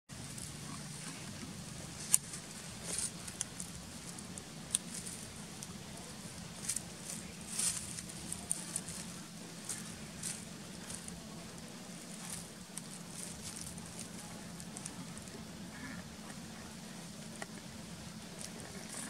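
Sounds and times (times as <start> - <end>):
dry leaf litter crackling: 0.1 - 19.0
steady low hum: 0.1 - 19.0.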